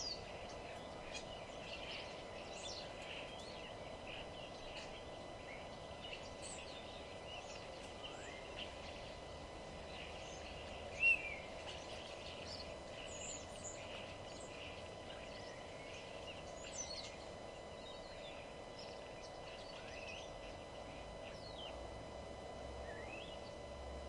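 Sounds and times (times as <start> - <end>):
low background hum: 0.0 - 24.0
songbirds chirping and singing: 0.0 - 24.0.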